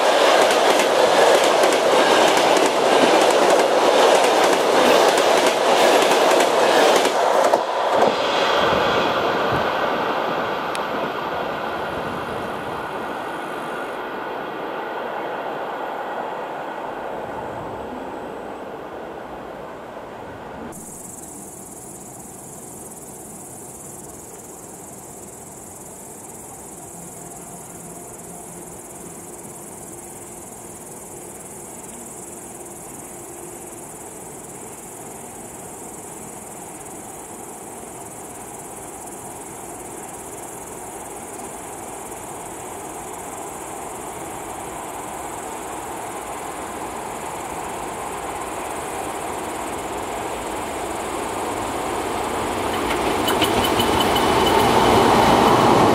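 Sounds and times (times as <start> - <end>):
crickets chirping: 0.0 - 55.9
electric train rumble: 0.0 - 55.9.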